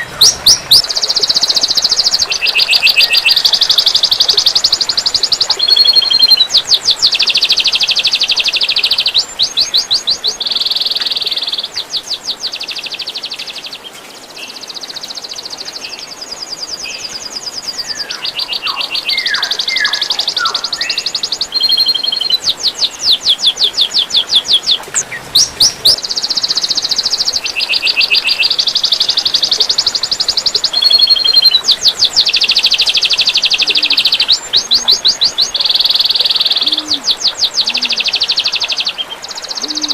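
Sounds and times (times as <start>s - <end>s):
songbird rapid trills: 0.0s - 13.6s, 17.7s - 39.9s
faint water trickling: 0.0s - 39.9s.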